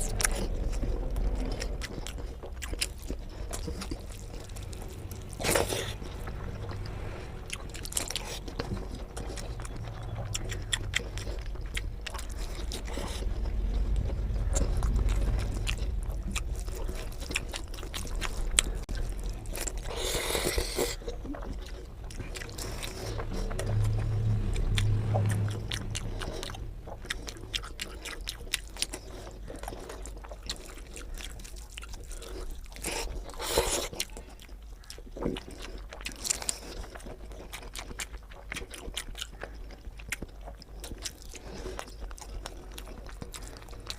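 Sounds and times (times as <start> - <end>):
person chewing wetly: 0.0 - 43.9.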